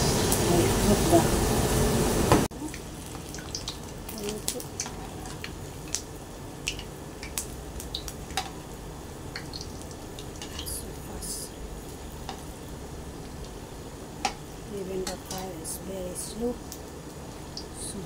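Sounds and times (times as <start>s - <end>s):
food deep-frying sizzle: 0.0s - 18.0s.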